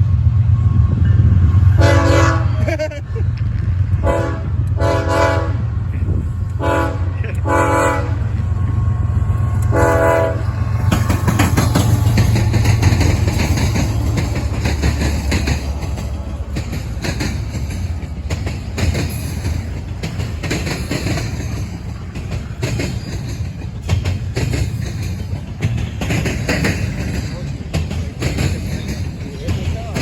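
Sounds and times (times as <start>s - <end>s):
freight train rumble: 0.0s - 30.0s
train wheels clicking over rail joints: 1.8s - 30.0s.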